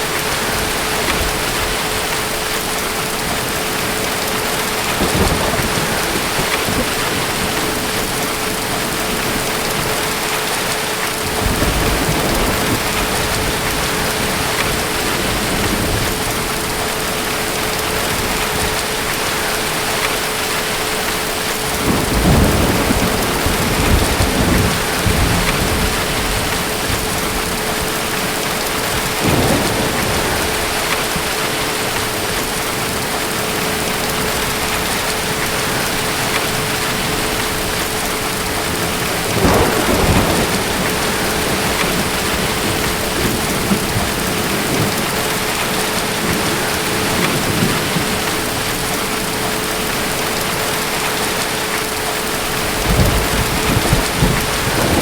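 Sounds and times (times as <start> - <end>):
heavy rain: 0.0 - 55.0
distant thunder rolls: 0.3 - 10.2, 11.2 - 18.8, 21.7 - 50.1, 52.6 - 55.0.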